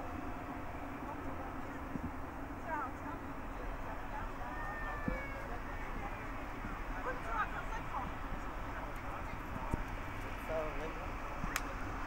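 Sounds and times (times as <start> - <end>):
distant engine rumble: 0.0 - 12.0.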